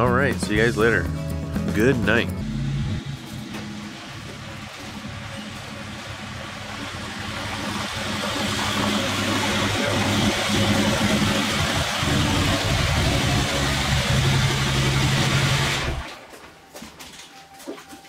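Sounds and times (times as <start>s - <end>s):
diesel truck engine running: 0.0s - 16.2s.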